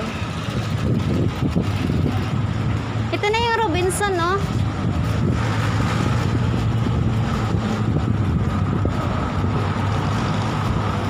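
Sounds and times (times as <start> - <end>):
low engine hum: 0.0 - 11.0
road traffic: 0.0 - 11.0.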